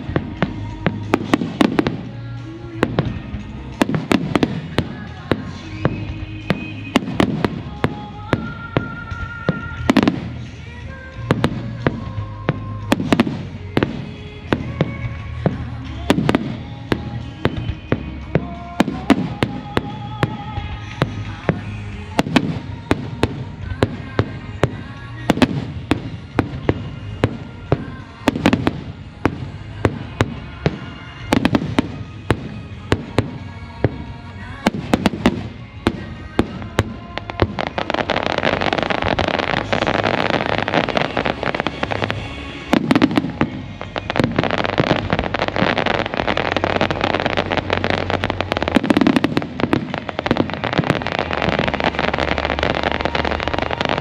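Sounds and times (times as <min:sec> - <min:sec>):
fireworks bangs and crackling: 0:00.0 - 0:54.0
music playing: 0:00.0 - 0:54.0.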